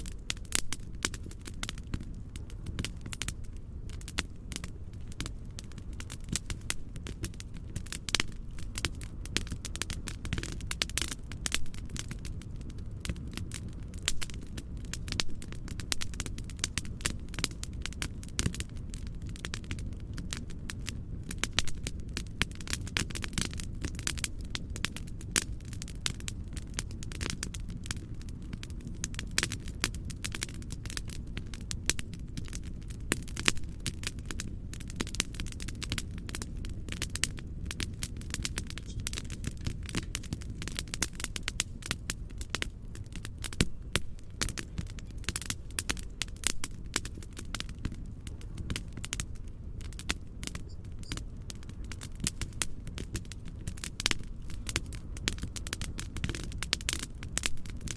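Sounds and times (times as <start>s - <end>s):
fireplace crackling: 0.0s - 57.9s.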